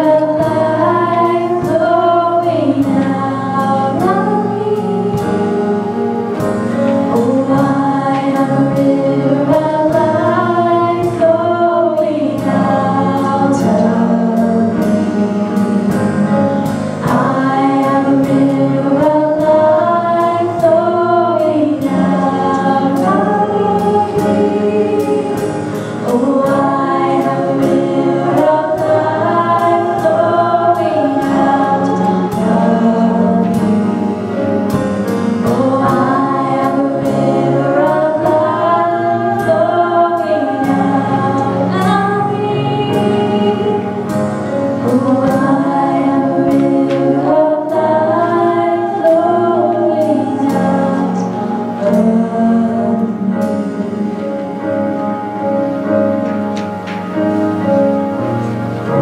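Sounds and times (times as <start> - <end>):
voices singing worship song: 0.0 - 57.7
instrumental accompaniment with beat: 0.0 - 59.0.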